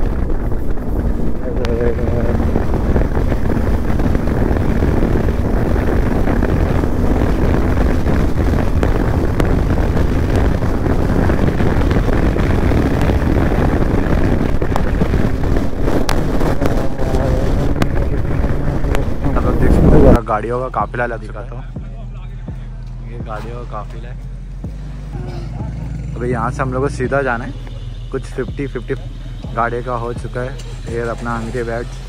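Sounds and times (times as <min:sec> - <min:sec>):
motorcycle engine running: 0:00.0 - 0:32.0
wind rushing over microphone: 0:00.0 - 0:32.0.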